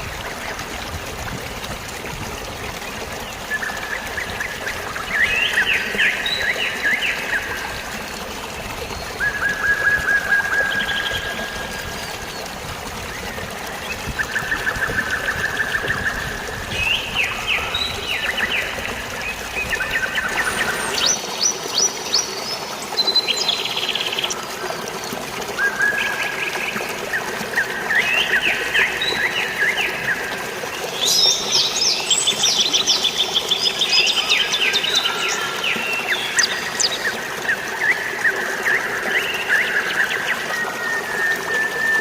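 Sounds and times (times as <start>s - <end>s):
rushing water: 0.0s - 42.0s
birds singing trills: 3.2s - 24.9s, 25.5s - 42.0s.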